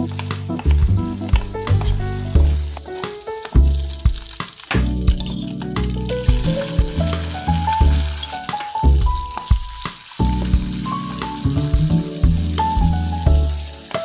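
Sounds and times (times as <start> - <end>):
background music: 0.0 - 14.0
food sizzling in hot oil: 0.0 - 14.0.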